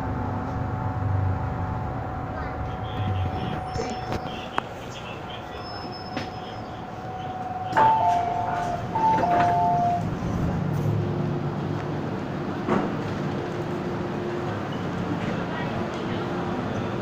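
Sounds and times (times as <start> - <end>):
subway car running with whine: 0.0 - 17.0.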